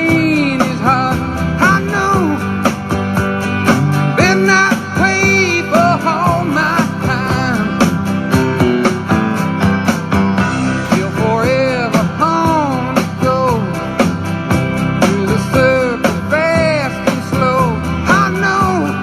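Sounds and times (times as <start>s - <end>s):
rock music with guitars and drums: 0.0s - 19.0s.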